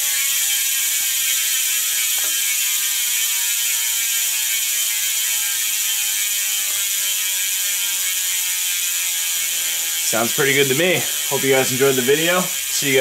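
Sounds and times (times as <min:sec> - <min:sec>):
bicycle hub freewheel buzz: 0:00.0 - 0:13.0.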